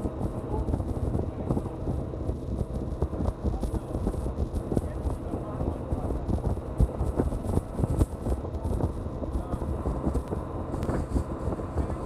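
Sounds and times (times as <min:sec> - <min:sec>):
motorboat engine: 0:00.0 - 0:12.0.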